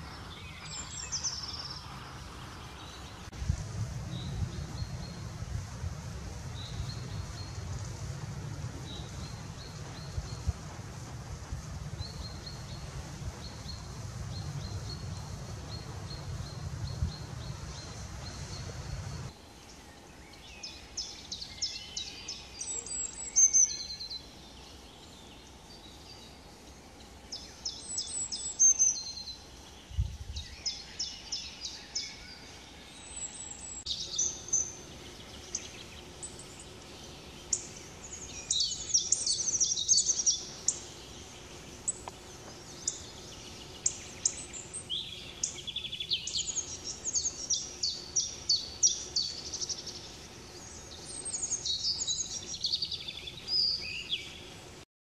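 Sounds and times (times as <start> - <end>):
songbirds singing: 0.0 - 54.8.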